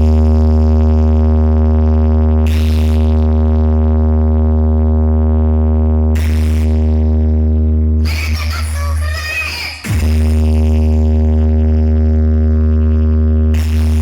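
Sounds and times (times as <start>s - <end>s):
deep electronic bass tone: 0.0s - 9.0s, 9.8s - 14.0s.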